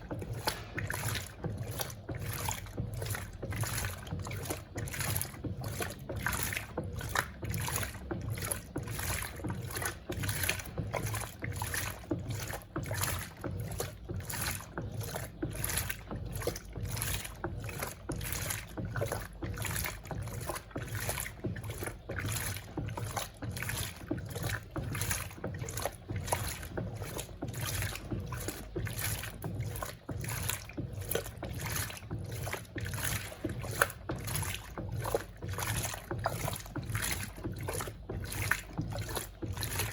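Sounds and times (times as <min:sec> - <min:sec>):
low motor hum: 0:00.0 - 0:39.9
washing machine water sloshing: 0:00.0 - 0:39.9.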